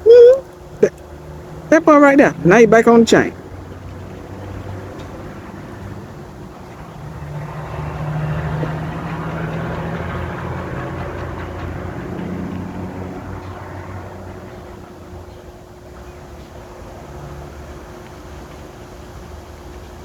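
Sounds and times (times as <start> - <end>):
passing vehicle engine hum: 0.0 - 19.8.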